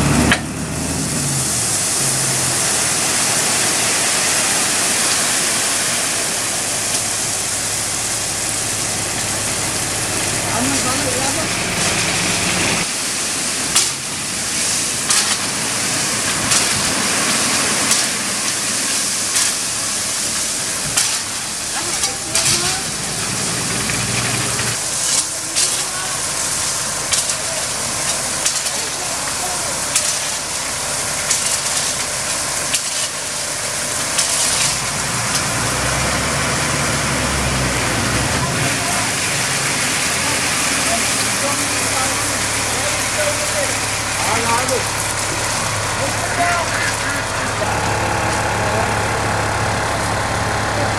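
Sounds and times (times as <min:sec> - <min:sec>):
lorry diesel engine: 0:00.0 - 0:50.9
loud steady hissing: 0:00.0 - 0:50.9.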